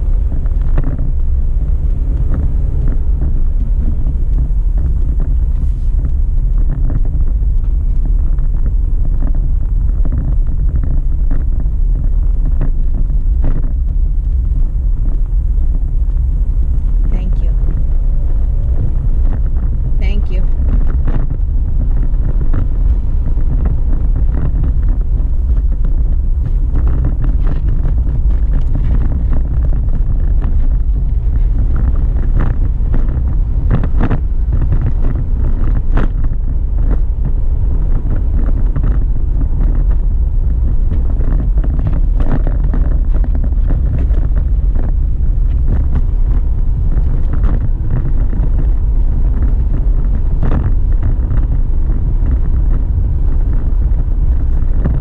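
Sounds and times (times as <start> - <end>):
car driving cabin rumble: 0.0 - 55.0.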